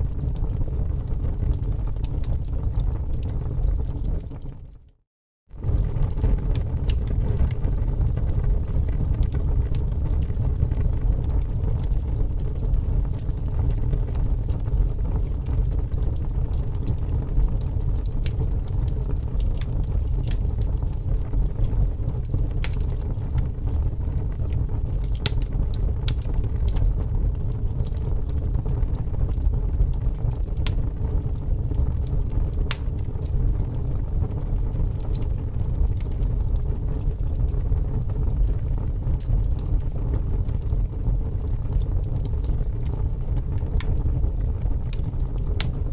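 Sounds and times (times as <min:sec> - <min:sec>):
logs crackling and popping: 0:00.0 - 0:05.0, 0:05.6 - 0:45.9
fire flames rumbling: 0:00.0 - 0:45.9.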